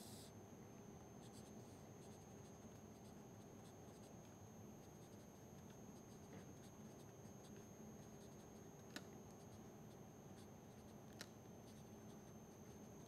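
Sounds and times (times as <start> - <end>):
quiet room noise: 0.0 - 13.0.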